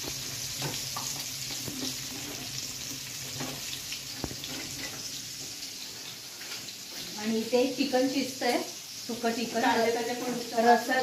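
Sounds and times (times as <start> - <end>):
prawns sizzling in oil: 0.0 - 11.0.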